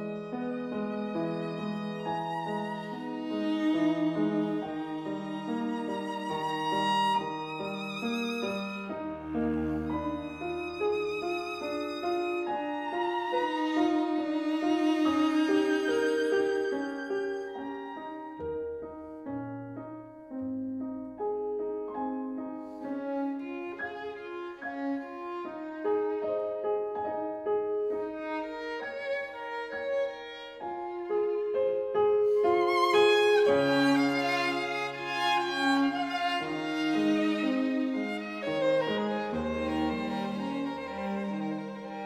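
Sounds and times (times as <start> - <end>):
slow violin melody: 0.0 - 19.5, 21.8 - 42.0.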